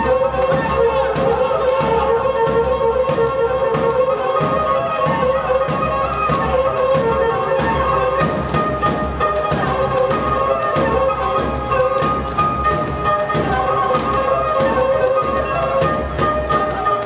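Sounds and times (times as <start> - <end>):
bowed lyra melody: 0.0 - 17.0
drum beating: 0.0 - 17.0.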